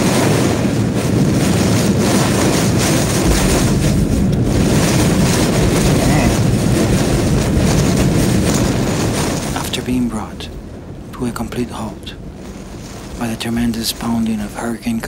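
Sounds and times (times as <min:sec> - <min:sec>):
heavy rain: 0:00.0 - 0:15.0
strong wind rushing: 0:00.0 - 0:15.0
wind buffeting microphone: 0:00.0 - 0:15.0.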